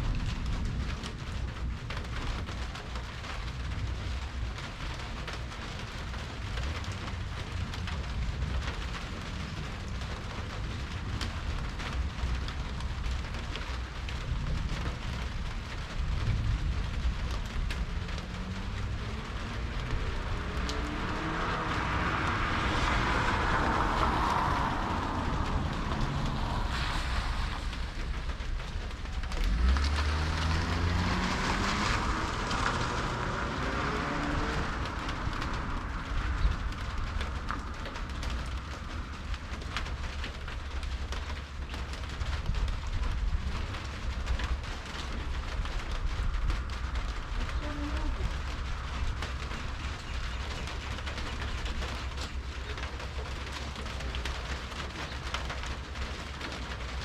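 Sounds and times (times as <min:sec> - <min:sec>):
cars passing on wet street: 0:00.0 - 0:57.0
steady low rumble: 0:00.0 - 0:57.0.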